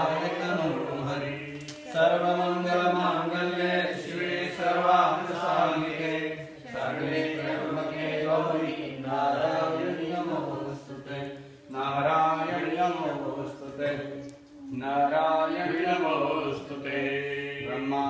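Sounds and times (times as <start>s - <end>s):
voices singing a hymn together: 0.0s - 18.0s.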